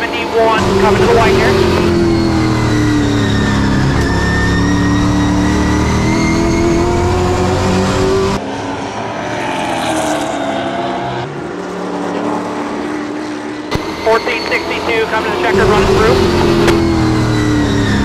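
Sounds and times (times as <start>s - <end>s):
race truck engines: 0.0s - 18.0s.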